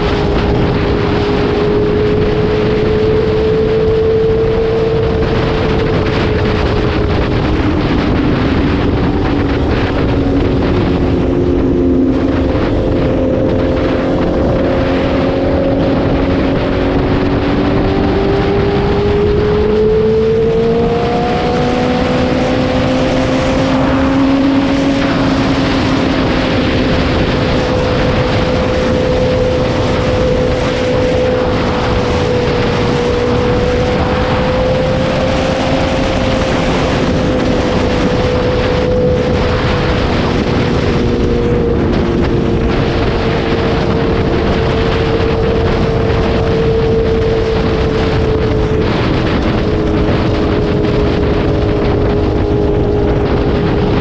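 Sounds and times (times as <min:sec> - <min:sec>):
motorcycle engine cruising: 0:00.0 - 0:54.0
wind rushing over microphone: 0:00.0 - 0:54.0.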